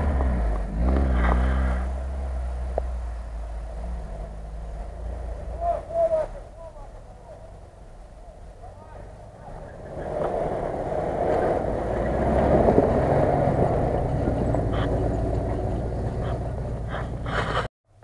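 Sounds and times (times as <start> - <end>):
car engine pulling under load: 0.0 - 17.7
tyres churning snow: 0.0 - 17.7.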